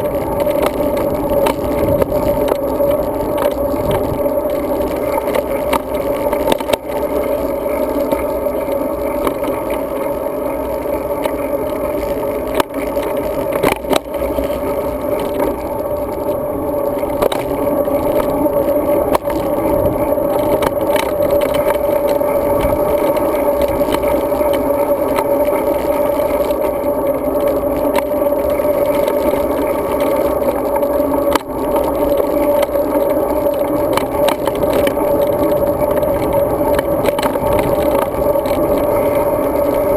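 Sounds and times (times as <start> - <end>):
constant hum: 0.0 - 39.9
wind and road noise: 0.0 - 39.9.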